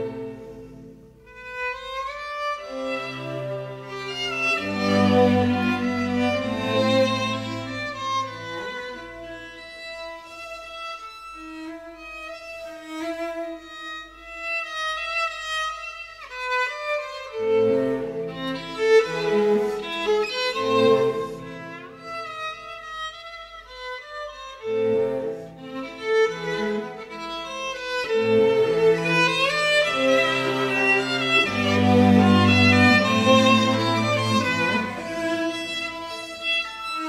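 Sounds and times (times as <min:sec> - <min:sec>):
instrumental music: 0:00.0 - 0:37.0.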